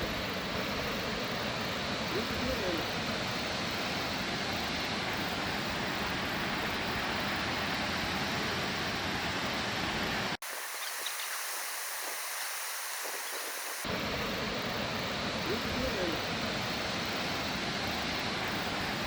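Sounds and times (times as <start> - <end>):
distant waterfall rushing: 0.0 - 19.0
hissing rush of water: 0.0 - 19.0.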